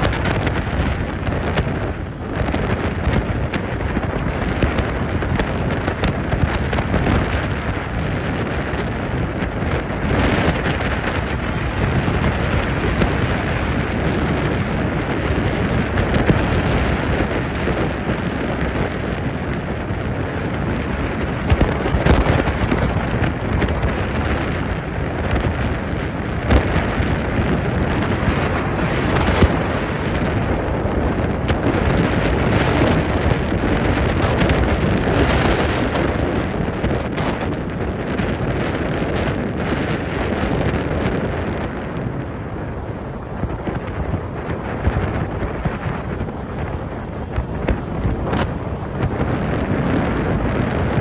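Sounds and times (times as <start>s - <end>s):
heavy wind buffeting microphone: 0.0s - 51.0s.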